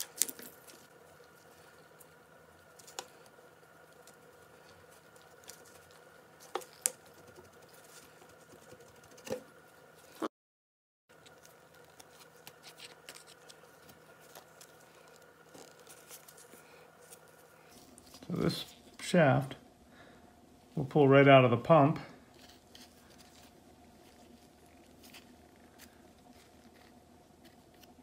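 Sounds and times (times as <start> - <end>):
faint steady hum: 0.0 - 10.3, 11.1 - 28.0.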